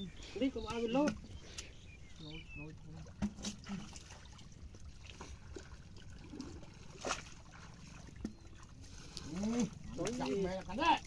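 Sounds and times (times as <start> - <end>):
soft water splashes: 0.0 - 11.0.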